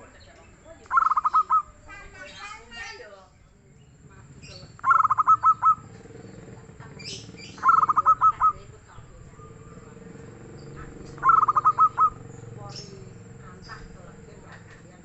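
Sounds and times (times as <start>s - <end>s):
dove cooing: 0.0s - 2.7s, 4.0s - 15.0s
small birds chirping: 0.0s - 15.0s.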